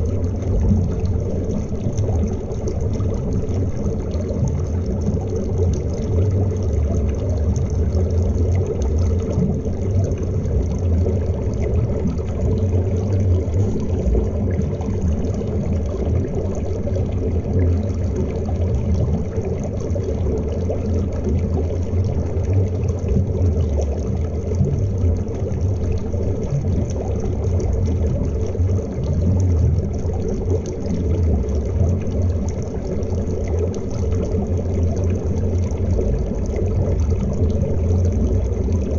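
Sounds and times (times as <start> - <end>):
faint bubbling: 0.0 - 38.9
underwater river current rush: 0.0 - 38.9.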